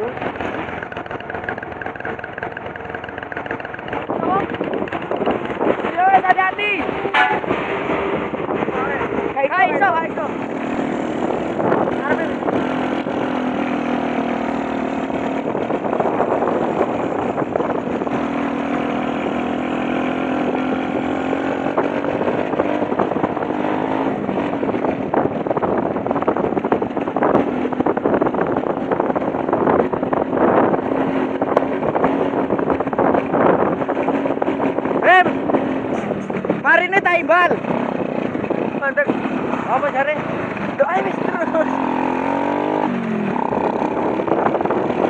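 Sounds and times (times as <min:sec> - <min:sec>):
road noise: 0:00.0 - 0:45.0
truck engines droning: 0:00.0 - 0:45.0.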